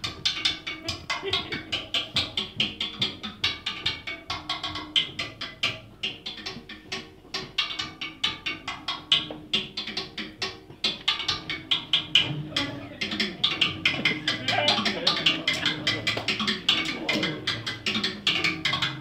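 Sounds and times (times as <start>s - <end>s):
drum kit played with sticks: 0.0s - 19.0s.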